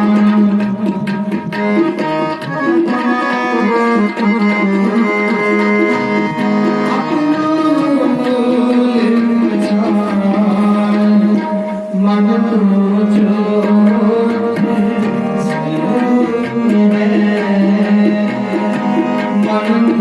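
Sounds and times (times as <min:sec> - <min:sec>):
harmonium melody over drone: 0:00.0 - 0:20.0
tabla strokes: 0:00.0 - 0:20.0.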